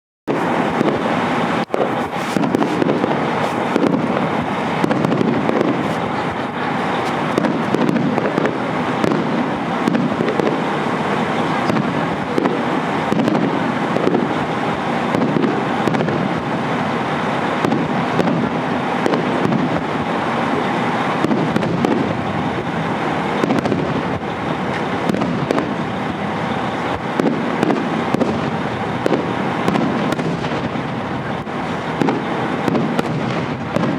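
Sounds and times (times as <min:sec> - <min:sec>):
fireworks crackling and popping: 0:00.3 - 0:33.9.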